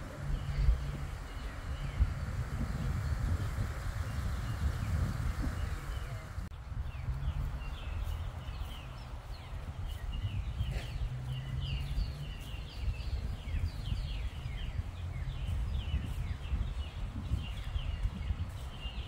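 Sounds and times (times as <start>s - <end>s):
birds chirping and chattering: 0.0s - 19.0s
steady low rumble: 0.0s - 19.0s.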